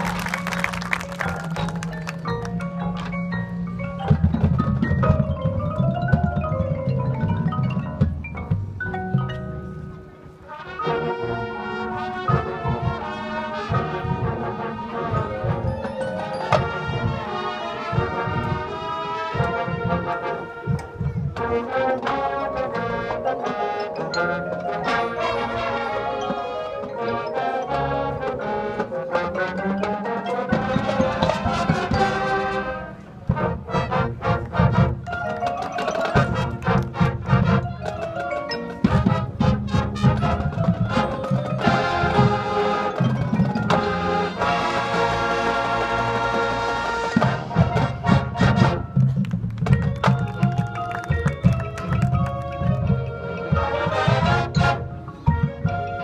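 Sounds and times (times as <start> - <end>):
marching band playing jazz: 0.0 - 56.0.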